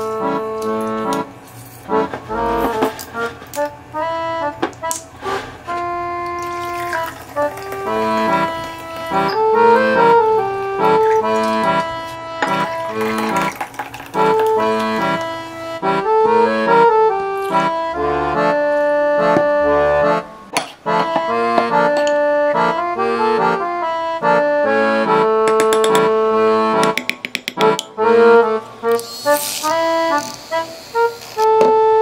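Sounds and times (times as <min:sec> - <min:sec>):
instrumental background music: 0:00.0 - 0:32.0.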